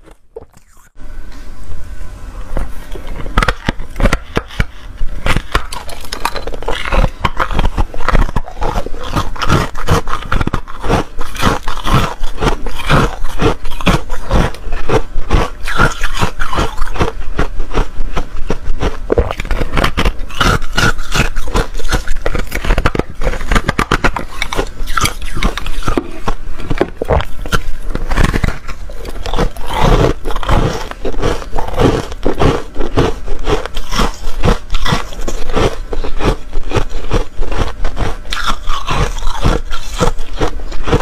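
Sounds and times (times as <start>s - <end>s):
ice chunks crunching when chewed: 2.8s - 41.0s.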